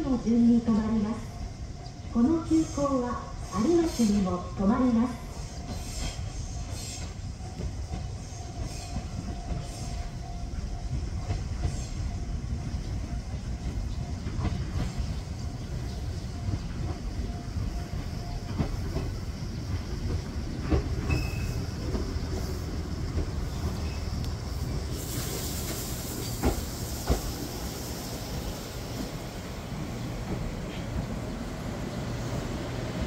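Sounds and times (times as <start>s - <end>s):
electric train rumbling: 0.0s - 33.0s
faint train whine: 0.0s - 33.0s.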